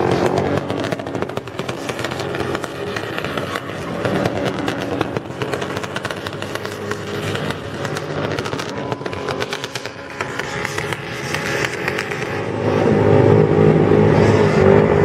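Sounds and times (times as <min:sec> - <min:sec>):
car engine at high revs: 0:00.0 - 0:15.0
exhaust crackles: 0:00.0 - 0:15.0.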